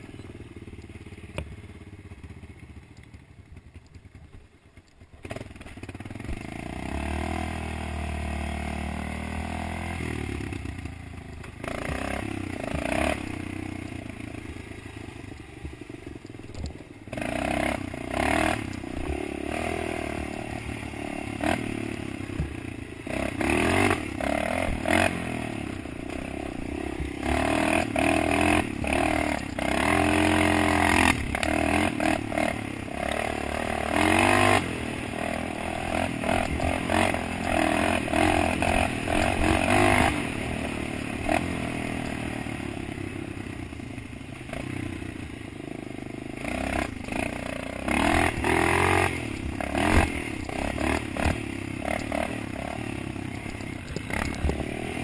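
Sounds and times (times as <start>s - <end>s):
off-road engine revving: 5.2s - 55.0s.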